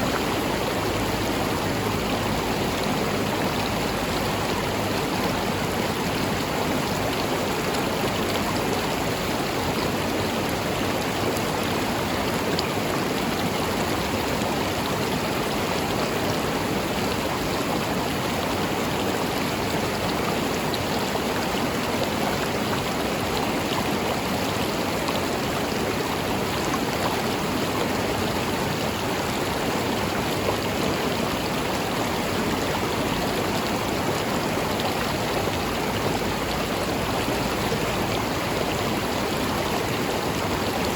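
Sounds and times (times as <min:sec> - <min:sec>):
river water flowing over stones: 0:00.0 - 0:40.9.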